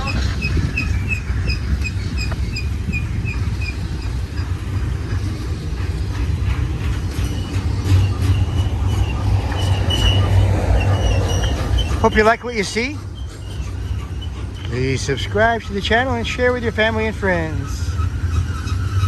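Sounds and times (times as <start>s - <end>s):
train wheels rumbling on rail: 0.0s - 19.0s
wheel flange squeals: 0.0s - 19.0s.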